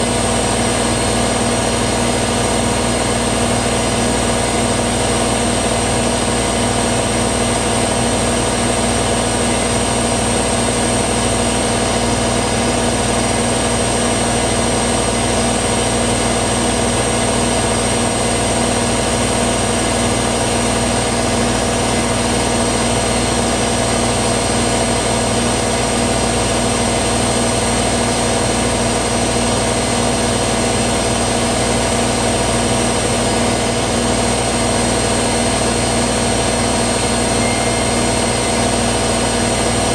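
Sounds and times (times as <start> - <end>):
washer dryer motor hum: 0.0 - 39.9.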